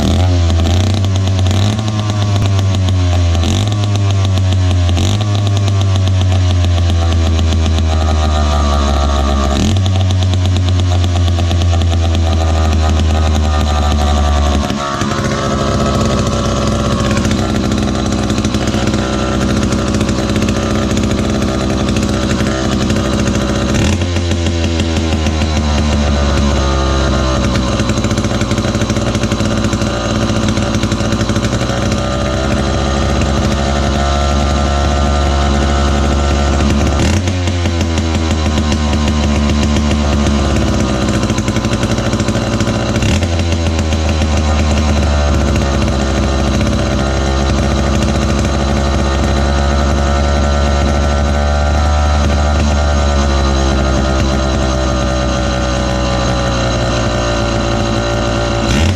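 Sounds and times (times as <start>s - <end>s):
chainsaw engine running: 0.0s - 58.9s.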